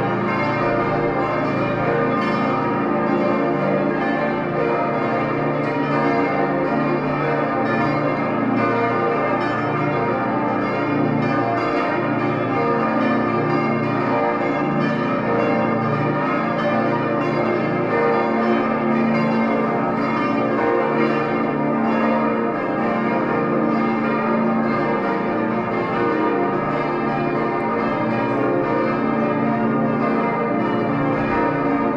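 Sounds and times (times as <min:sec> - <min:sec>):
church bells ringing: 0:00.0 - 0:31.9.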